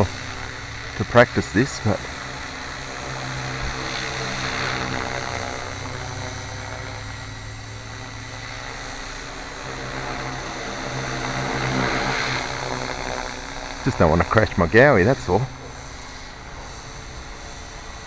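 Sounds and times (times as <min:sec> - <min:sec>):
rc helicopter rotor whirring: 0:00.0 - 0:18.0.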